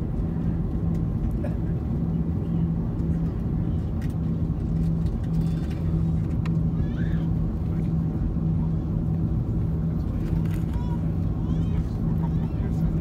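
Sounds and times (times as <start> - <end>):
aircraft cabin low rumble: 0.0 - 13.0
intermittent low hum: 0.0 - 13.0.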